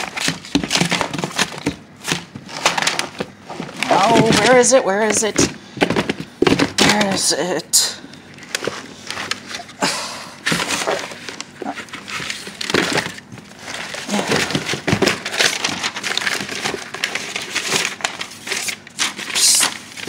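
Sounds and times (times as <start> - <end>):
papers rustling and crinkling: 0.0 - 7.3, 8.2 - 9.8, 10.4 - 20.0.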